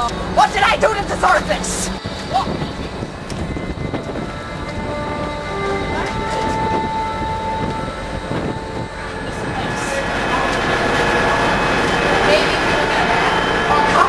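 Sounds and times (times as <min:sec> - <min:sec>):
faint steady tones: 0:00.0 - 0:14.0
machinery rumble and hiss: 0:00.0 - 0:14.0.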